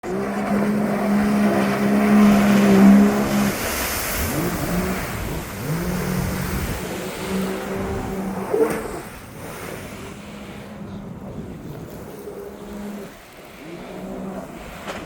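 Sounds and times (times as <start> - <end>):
jet ski engine revving: 0.0 - 15.0.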